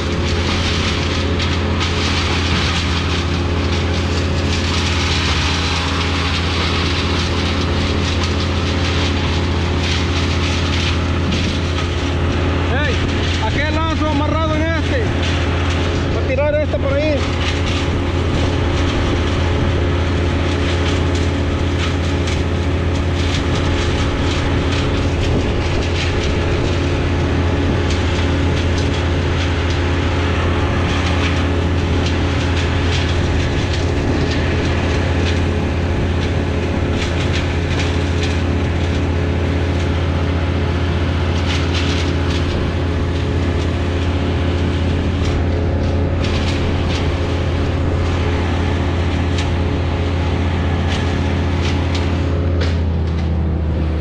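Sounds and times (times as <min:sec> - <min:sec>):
large engine droning: 0:00.0 - 0:54.0.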